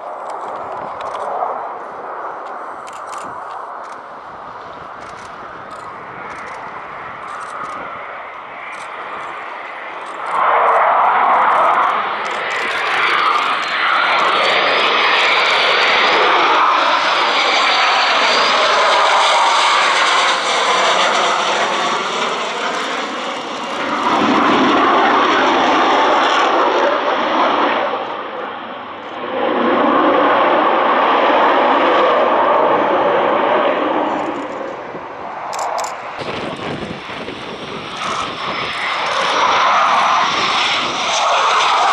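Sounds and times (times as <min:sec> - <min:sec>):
jet engine roar: 0:00.0 - 0:41.9.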